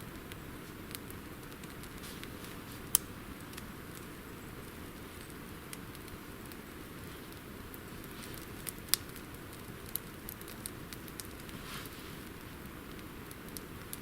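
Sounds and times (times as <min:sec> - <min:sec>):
campfire crackling: 0:00.0 - 0:14.0
steady hiss of fire: 0:00.0 - 0:14.0
sharp pops of fire: 0:00.2 - 0:14.0.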